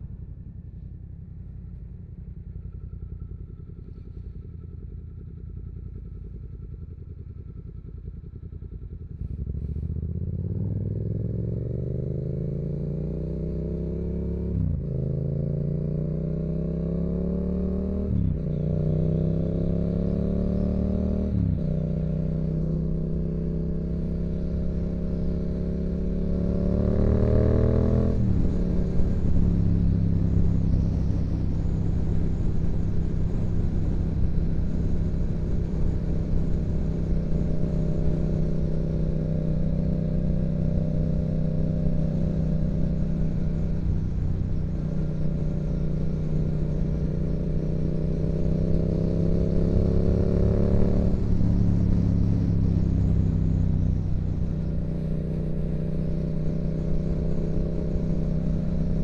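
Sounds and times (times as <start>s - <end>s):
motorcycle engine revving: 3.4s - 59.0s.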